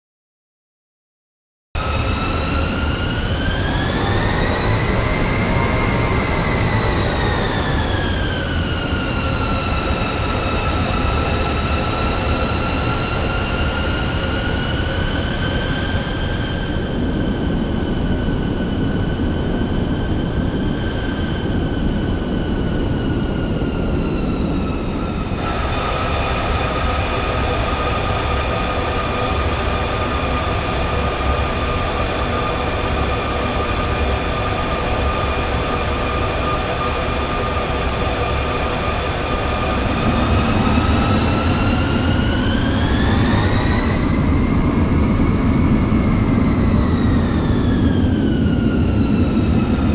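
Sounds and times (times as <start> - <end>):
jet engines whining: 1.8 - 49.9.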